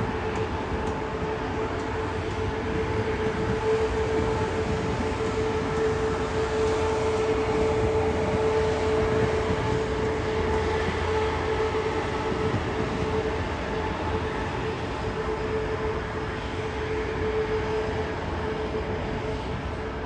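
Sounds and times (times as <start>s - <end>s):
electric train rolling rumble: 0.0s - 20.0s
train whine: 0.0s - 20.0s.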